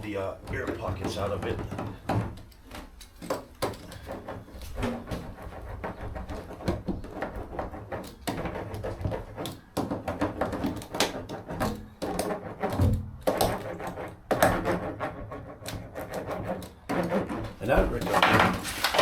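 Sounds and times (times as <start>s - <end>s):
hand roller on foil mat: 0.0s - 19.0s.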